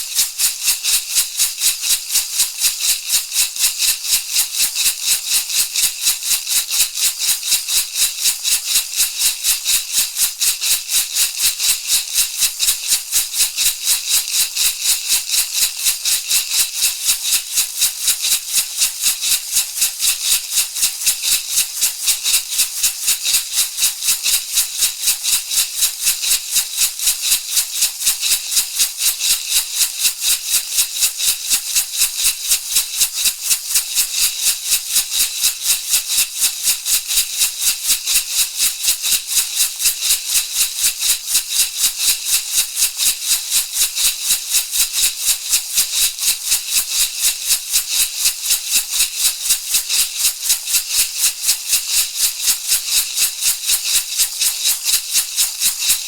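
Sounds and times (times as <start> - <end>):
rattle shaken steadily: 0.0 - 56.0.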